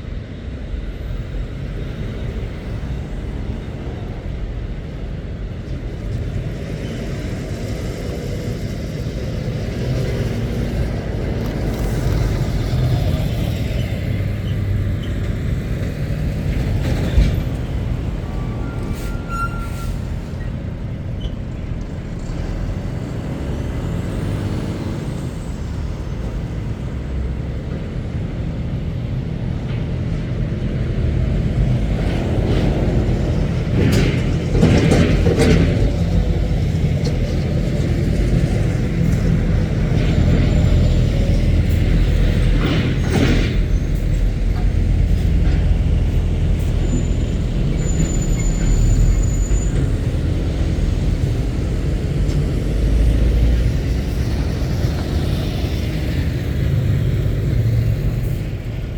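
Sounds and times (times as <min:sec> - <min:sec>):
diesel truck engines rumbling: 0:00.0 - 0:58.9.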